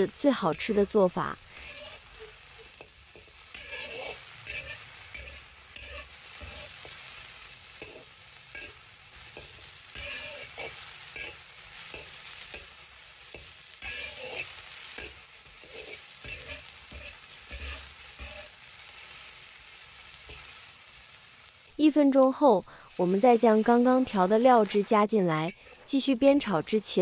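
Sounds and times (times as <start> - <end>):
spatula scraping wok: 0.0 - 27.0
vegetables sizzling in wok: 0.0 - 27.0.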